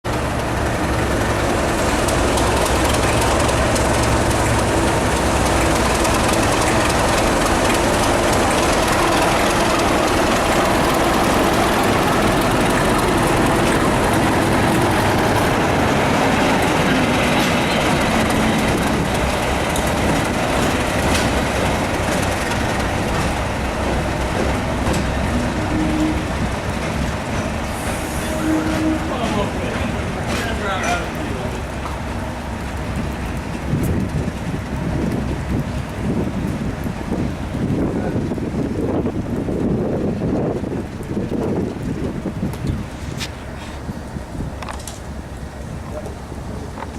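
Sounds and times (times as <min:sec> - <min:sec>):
diesel locomotive engine working: 0:00.1 - 0:46.9
train wheels on rails: 0:00.1 - 0:46.9.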